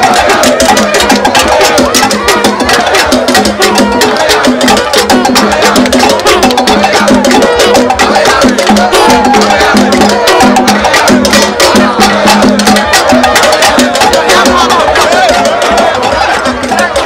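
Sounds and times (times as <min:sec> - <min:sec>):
crowd voices: 0:00.0 - 0:17.0
drums beating fast rhythm: 0:00.0 - 0:17.0.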